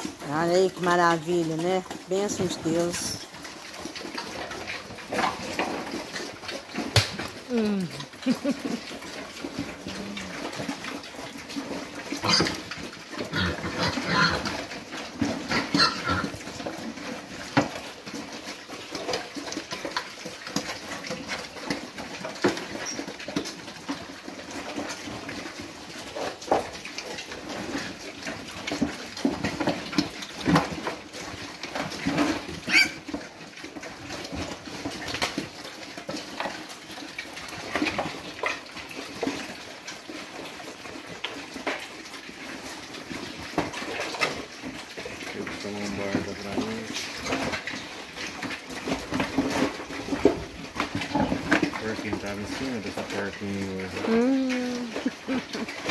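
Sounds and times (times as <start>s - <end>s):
pigs chewing and slurping: 0.0s - 55.9s
pigs grunting: 1.5s - 41.0s, 42.4s - 55.9s.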